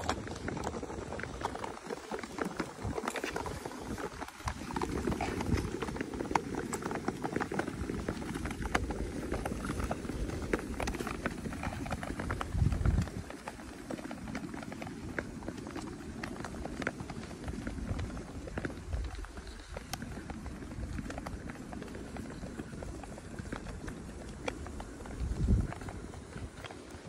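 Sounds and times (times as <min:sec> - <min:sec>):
skate blades scraping on ice: 0:00.0 - 0:27.0
ski poles clicking on ice: 0:00.0 - 0:27.0.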